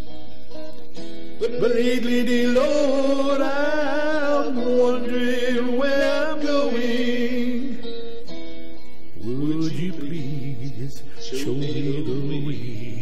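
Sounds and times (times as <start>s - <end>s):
backing track: 0.0s - 13.0s
guitar: 0.0s - 13.0s
man singing ballad: 1.4s - 8.2s, 9.2s - 13.0s.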